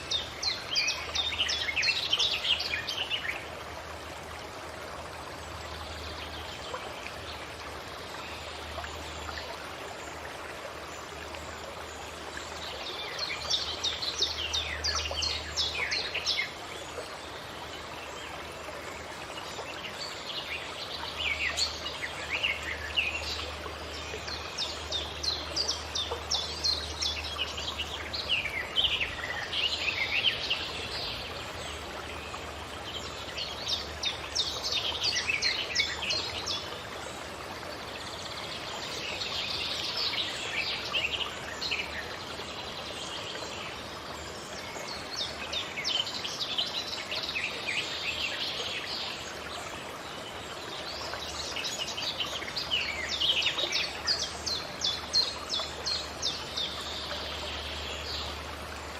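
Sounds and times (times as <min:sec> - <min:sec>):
forest birds chirping and singing: 0:00.0 - 0:04.3, 0:10.8 - 0:58.9.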